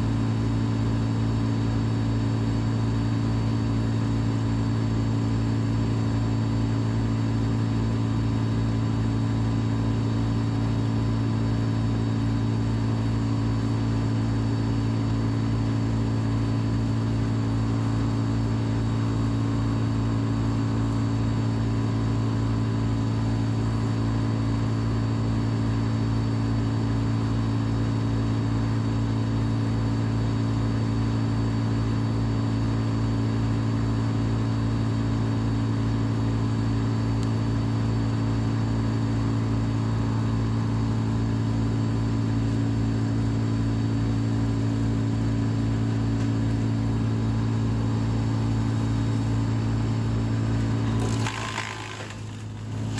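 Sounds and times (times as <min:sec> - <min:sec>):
wood chipper engine running: 0:00.0 - 0:52.9.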